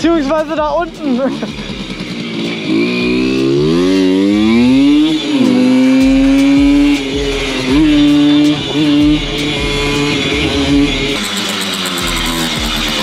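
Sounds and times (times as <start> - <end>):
moped engine revving: 0.0 - 13.0.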